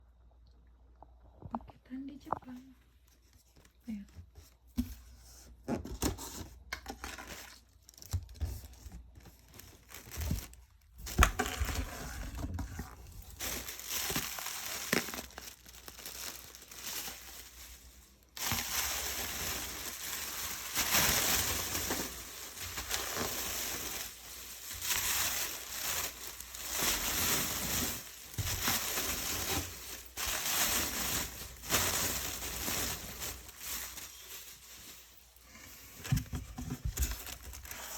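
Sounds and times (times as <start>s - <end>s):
packing material crinkling and tearing: 6.8s - 37.9s.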